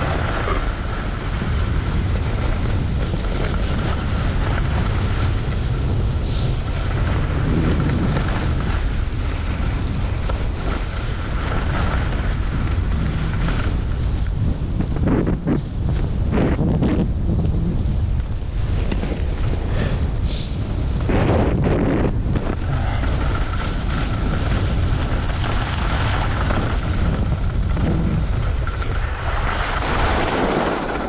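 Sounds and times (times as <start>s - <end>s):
wind rushing over microphone: 0.0s - 31.0s.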